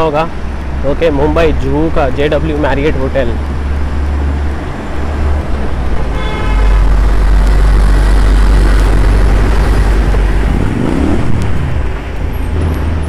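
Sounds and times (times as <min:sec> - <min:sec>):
vehicle engines: 0:00.0 - 0:13.0
wind rumbling on microphone: 0:00.3 - 0:13.0.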